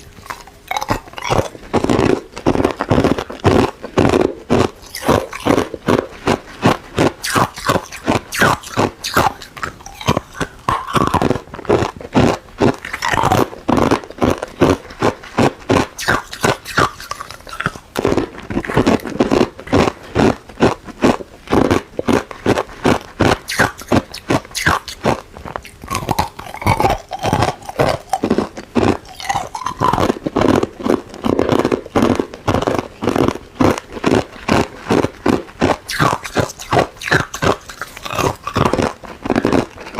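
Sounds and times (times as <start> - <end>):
ice being crunched by teeth: 0.0 - 39.9.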